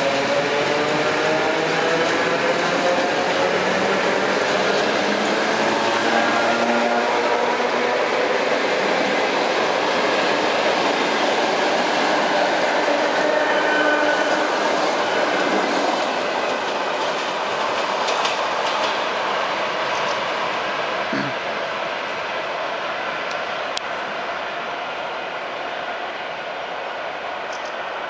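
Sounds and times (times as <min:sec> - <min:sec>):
train wheels rushing on rails: 0:00.0 - 0:28.0.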